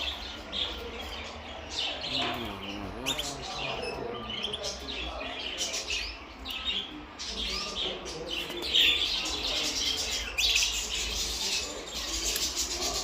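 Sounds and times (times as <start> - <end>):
finches singing: 0.0 - 13.0.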